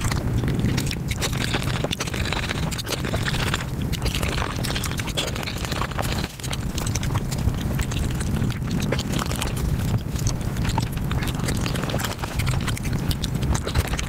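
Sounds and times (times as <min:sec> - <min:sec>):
wet chewing and mouth clicks: 0:00.0 - 0:14.0.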